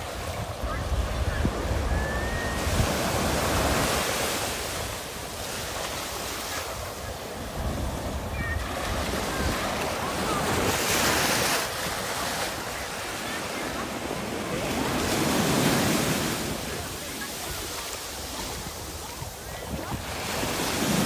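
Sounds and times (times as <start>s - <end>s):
small waves breaking on sand: 0.0s - 21.0s.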